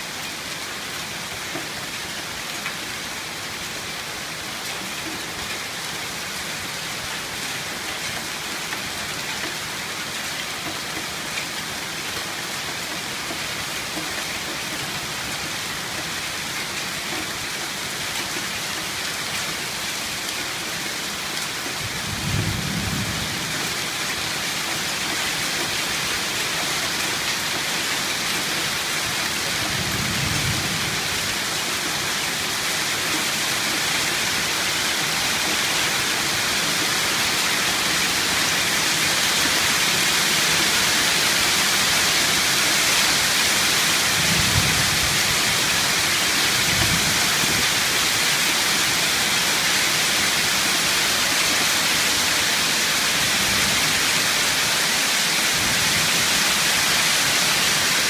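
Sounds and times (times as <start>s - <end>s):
hail and rain pelting down: 0.0s - 58.0s.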